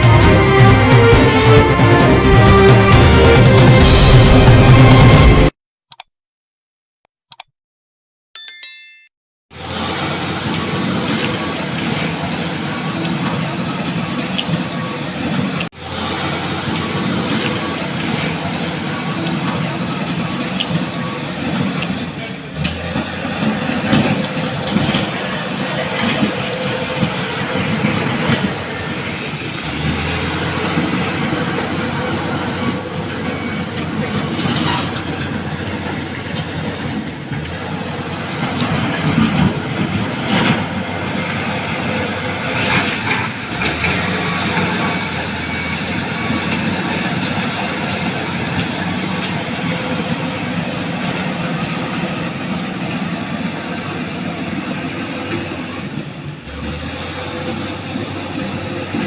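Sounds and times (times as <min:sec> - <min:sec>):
bulldozer running: 0:00.0 - 0:05.5, 0:09.5 - 0:59.0.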